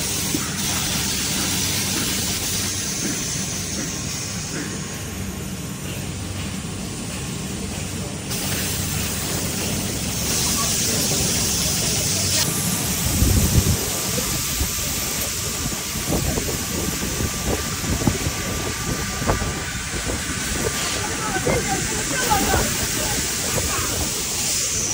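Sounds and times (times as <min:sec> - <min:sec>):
furnace rushing and hissing: 0:00.0 - 0:24.9.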